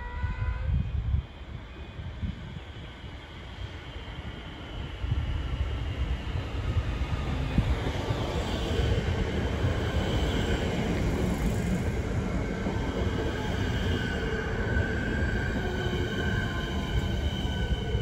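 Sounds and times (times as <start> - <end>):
faint train whine: 0.0 - 18.0
train wheels rumbling on rail: 0.0 - 18.0.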